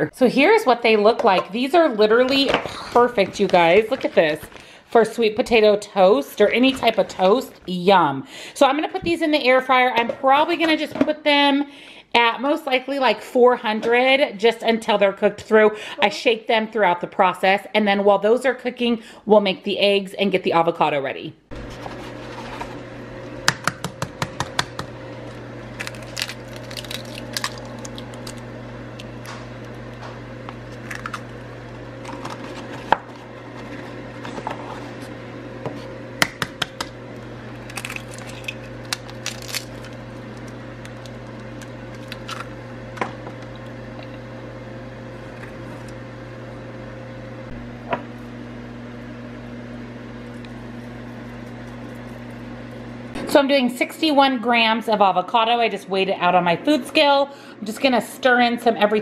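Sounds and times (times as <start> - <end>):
air fryer humming: 0.0 - 20.9, 21.5 - 59.0.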